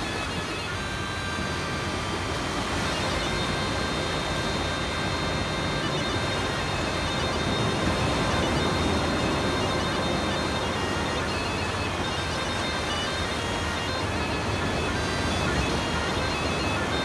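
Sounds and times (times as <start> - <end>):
faint bagpipe music: 0.0 - 17.0
waves breaking on a beach: 0.0 - 17.0.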